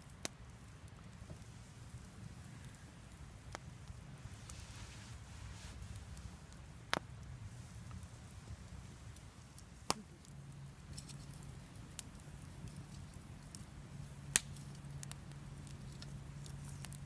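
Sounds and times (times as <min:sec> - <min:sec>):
fire popping: 0:00.0 - 0:17.0
low steady rumble: 0:00.0 - 0:17.0
wood fire crackling: 0:00.0 - 0:17.0.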